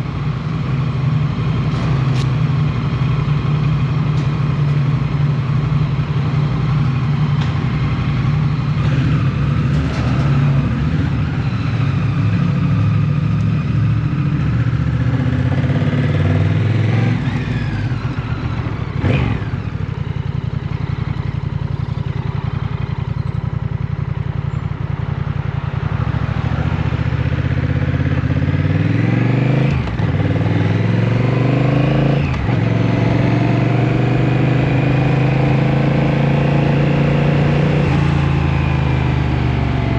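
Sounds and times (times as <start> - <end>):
motorcycle engine revving: 7.4 - 39.9.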